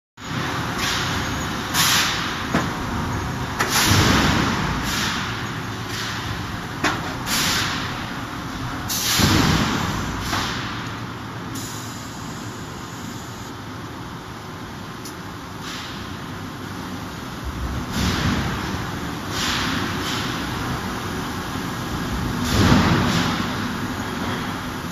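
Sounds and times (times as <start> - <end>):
steady machinery noise: 0.2 - 24.9.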